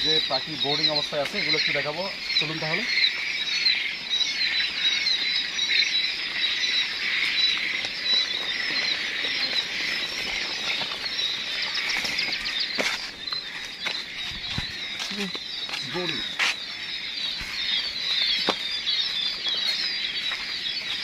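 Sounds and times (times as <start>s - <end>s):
quail chicks peeping: 0.0s - 21.0s.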